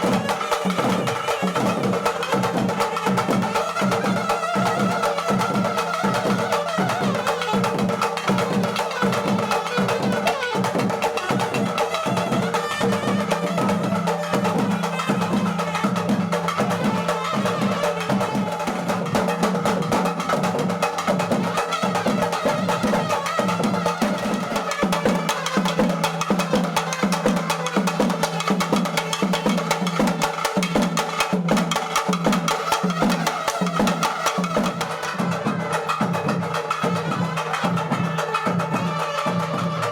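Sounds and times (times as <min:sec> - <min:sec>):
quick steady drum rhythm: 0:00.0 - 0:39.9.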